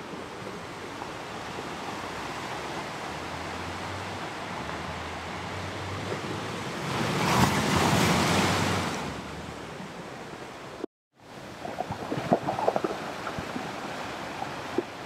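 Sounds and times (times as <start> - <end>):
ocean waves washing on shore: 0.0 - 15.0.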